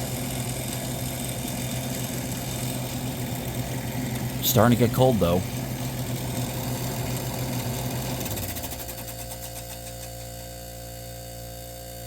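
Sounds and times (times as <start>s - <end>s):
fan rattling against shroud: 0.0s - 10.3s
air conditioner compressor hum: 0.0s - 12.0s.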